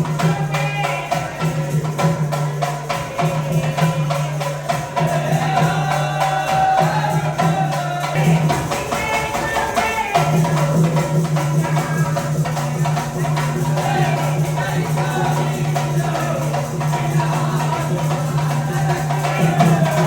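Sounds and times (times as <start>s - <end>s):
drums: 0.0s - 20.0s
rattling hand percussion: 0.0s - 20.0s.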